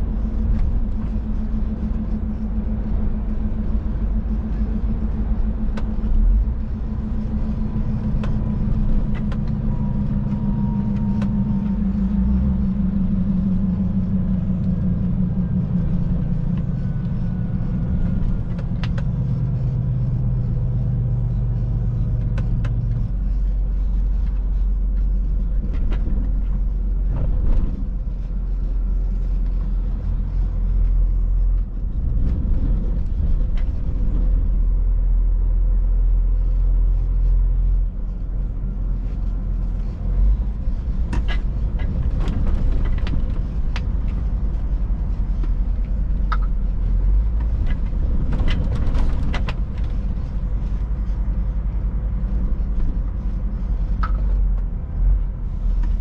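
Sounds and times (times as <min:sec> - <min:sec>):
hum: 0:00.0 - 0:56.0
road noise: 0:00.0 - 0:56.0
truck engine rumble: 0:00.0 - 0:56.0.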